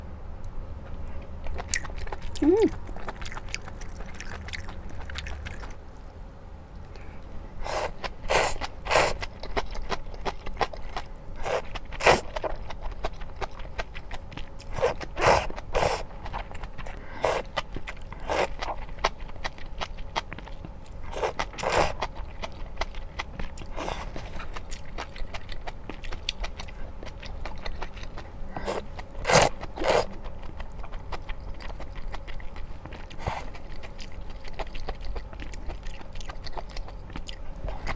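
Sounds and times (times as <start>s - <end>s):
chewing smacks and crunches: 1.2s - 6.0s, 8.0s - 37.9s.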